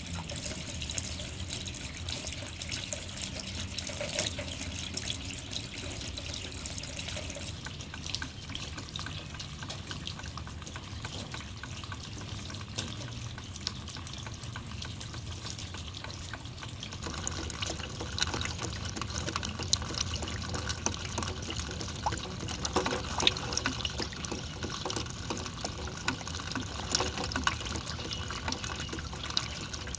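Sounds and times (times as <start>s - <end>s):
rain dripping into puddles: 0.0s - 29.9s.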